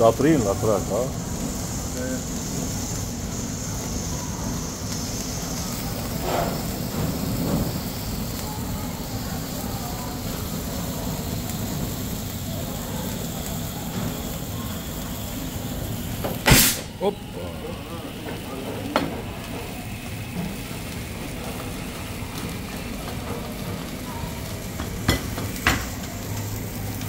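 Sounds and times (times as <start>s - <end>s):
flames burning: 0.0s - 27.0s
sparklers fizzing and crackling: 0.0s - 27.0s.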